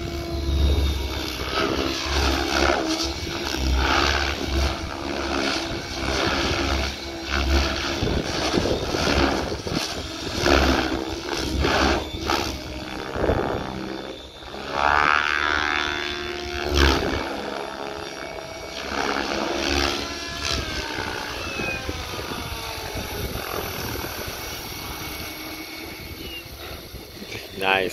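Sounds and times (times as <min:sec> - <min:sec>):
gliding motor whine: 0:00.0 - 0:27.9
helicopter rotor blades whooshing: 0:00.0 - 0:27.9
wind buffeting microphone: 0:00.0 - 0:27.9.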